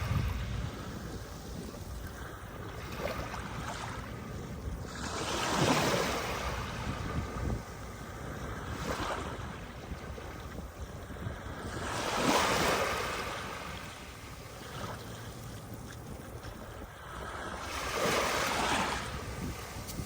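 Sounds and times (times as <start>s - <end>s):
waves washing onto sandy beach: 0.0s - 20.0s
wind buffeting microphone: 0.0s - 20.0s.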